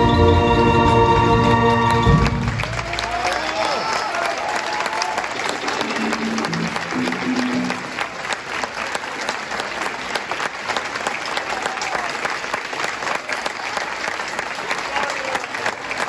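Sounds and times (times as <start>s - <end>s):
audience applauding: 1.7s - 16.0s.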